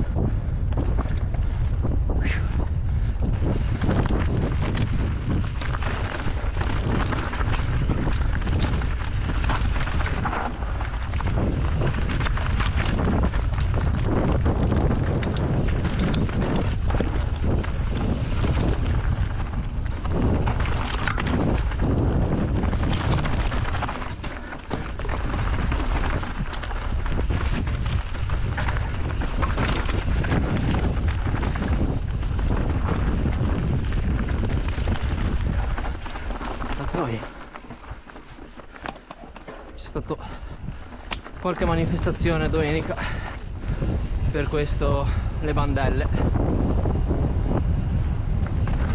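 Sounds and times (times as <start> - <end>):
bike knocking and rattling: 0.0 - 48.9
tyres rumbling on trail: 0.0 - 48.9
wind buffeting microphone: 0.0 - 48.9.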